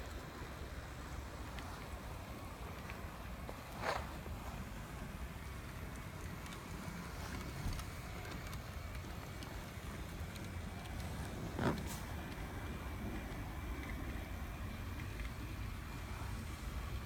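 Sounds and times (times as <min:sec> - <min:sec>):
model train rumbling on track: 0:00.0 - 0:17.0.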